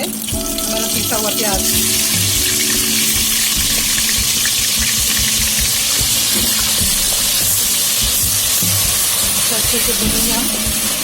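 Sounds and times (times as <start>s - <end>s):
onion paste sizzling in hot oil: 0.0s - 11.0s.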